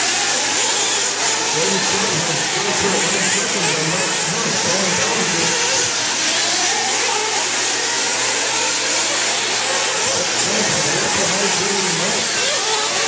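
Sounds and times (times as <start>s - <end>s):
rc car engines whining: 0.0s - 13.0s.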